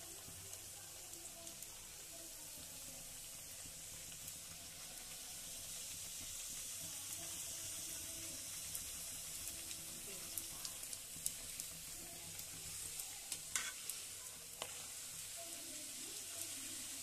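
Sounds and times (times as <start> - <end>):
deep-frying sizzle with pops: 0.0 - 17.0.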